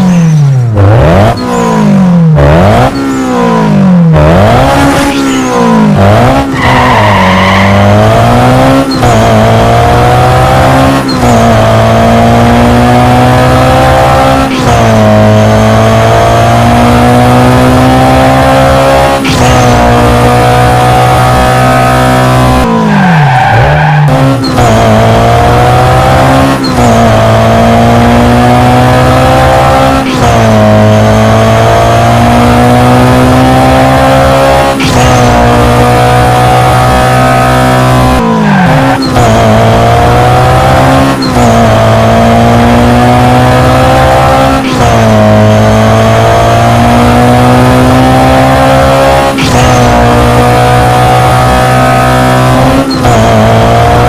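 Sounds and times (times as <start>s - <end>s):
car engine revving hard: 0.0s - 54.0s.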